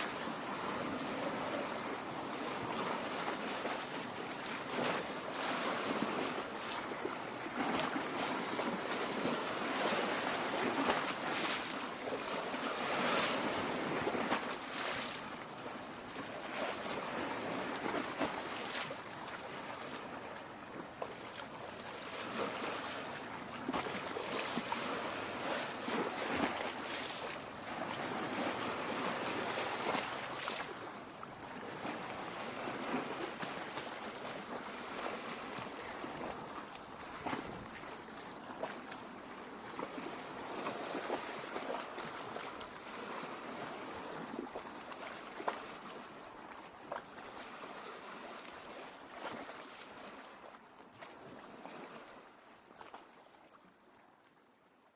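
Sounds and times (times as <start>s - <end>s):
water lapping at shore: 0.0s - 54.8s.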